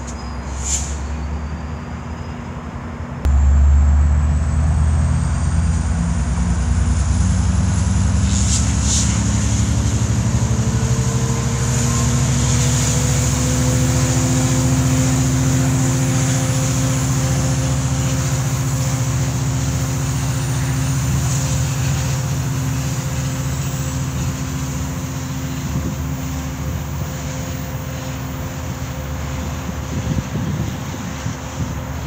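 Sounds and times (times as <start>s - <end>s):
diesel locomotive engine humming: 0.0s - 32.0s.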